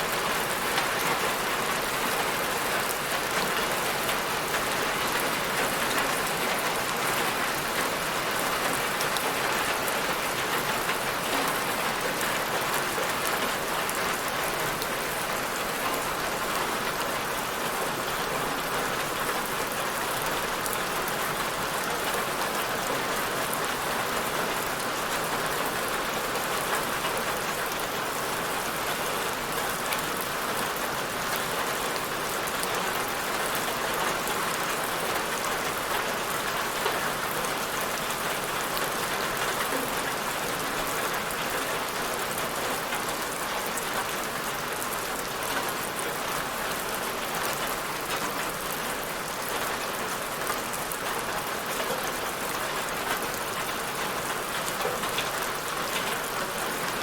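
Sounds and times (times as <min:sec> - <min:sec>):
rain on hard surface: 0:00.0 - 0:57.0.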